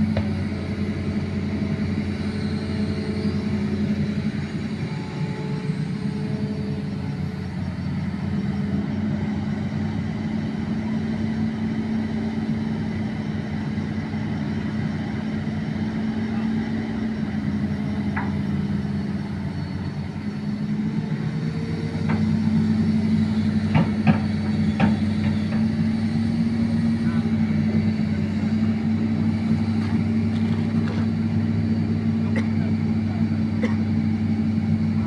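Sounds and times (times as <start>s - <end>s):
excavator diesel engine droning: 0.0s - 35.0s.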